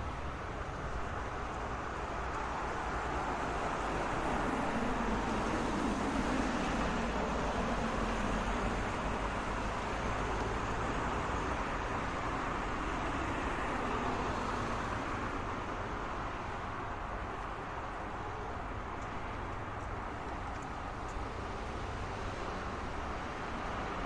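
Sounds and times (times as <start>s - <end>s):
passing cars: 0.0s - 24.0s.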